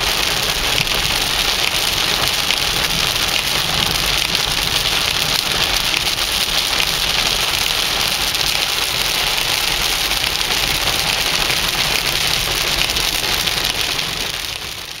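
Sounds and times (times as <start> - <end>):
heavy rain on car: 0.0 - 15.0
tyres on wet road: 0.0 - 15.0.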